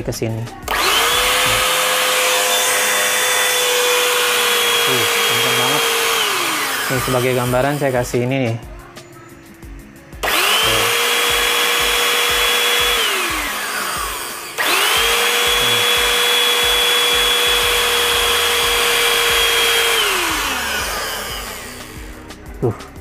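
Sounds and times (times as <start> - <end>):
hand vacuum cleaner motor whining: 0.6 - 8.4, 9.6 - 22.2.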